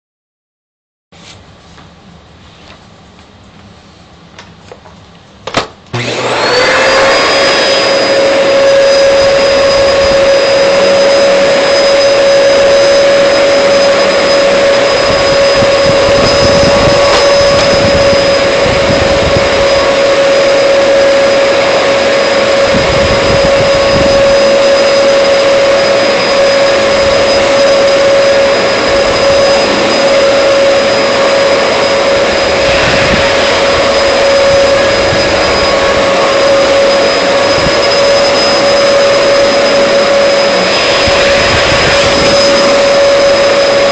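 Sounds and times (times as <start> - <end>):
vacuum cleaner motor whine: 4.4 - 43.9.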